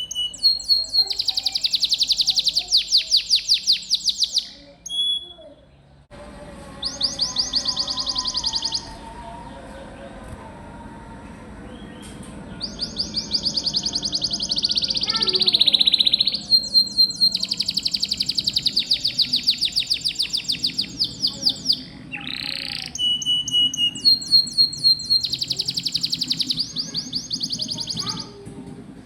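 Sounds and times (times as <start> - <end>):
canary singing trills: 0.0 - 6.0, 6.8 - 9.8, 11.7 - 28.4.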